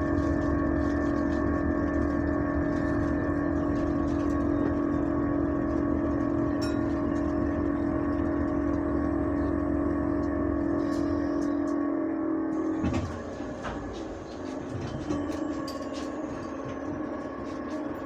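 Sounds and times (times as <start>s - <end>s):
bus rumble: 0.0s - 18.0s
loud droning tone: 0.0s - 18.0s.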